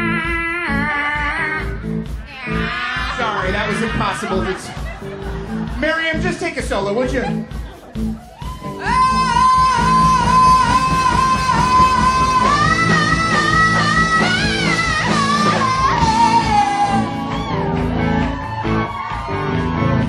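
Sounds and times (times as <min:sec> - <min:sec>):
rock band with electric guitars: 0:00.0 - 0:20.0.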